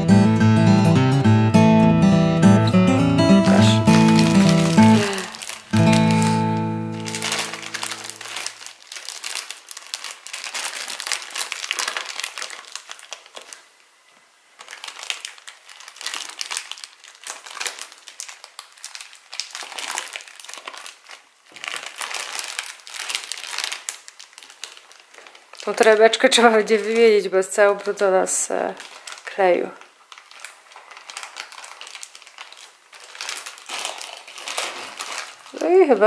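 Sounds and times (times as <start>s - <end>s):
plastic bag crinkling: 3.2s - 36.0s.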